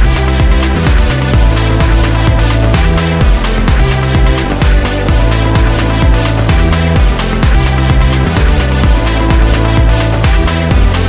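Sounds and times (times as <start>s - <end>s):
electronic dance music: 0.0s - 11.0s
fast drum beat: 0.0s - 11.0s
heavy bass: 0.0s - 11.0s.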